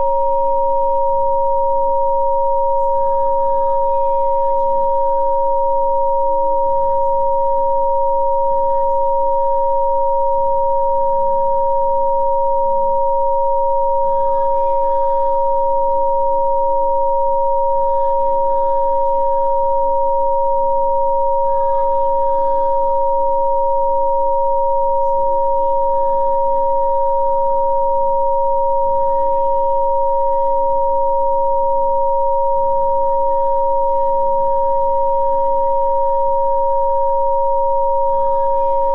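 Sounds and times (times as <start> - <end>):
two steady sine tones: 0.0 - 38.9.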